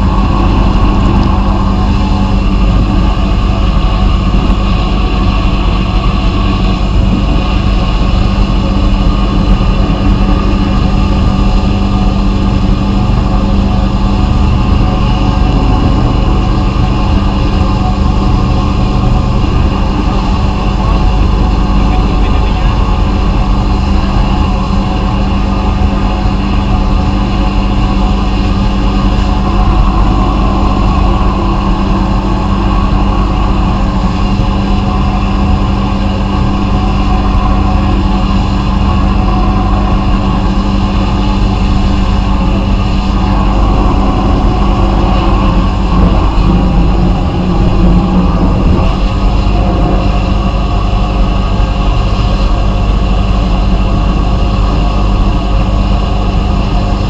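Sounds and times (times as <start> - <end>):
machine hum: 0.0 - 57.0.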